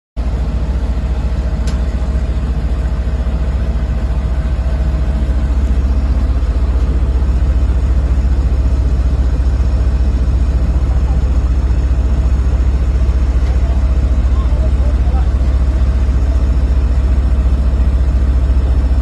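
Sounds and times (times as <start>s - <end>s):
engine running with pulsing rumble: 0.2s - 19.0s.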